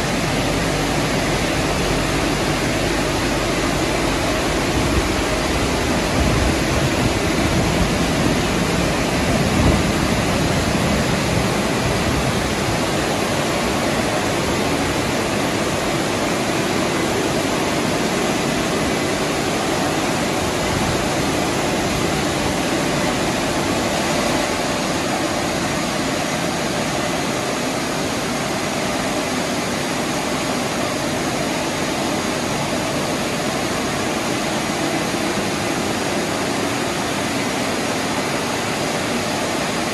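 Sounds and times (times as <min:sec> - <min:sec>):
car wash machinery rushing: 0:00.0 - 0:39.9.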